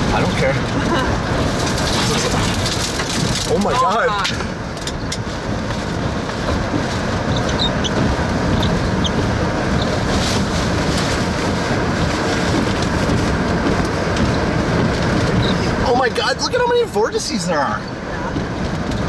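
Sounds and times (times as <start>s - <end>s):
wind and rain against car: 0.0s - 19.0s.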